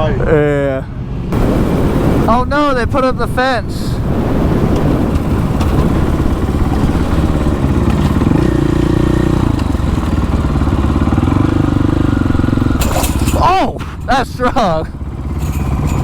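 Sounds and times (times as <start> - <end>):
motorcycle engine running: 1.3 - 16.0.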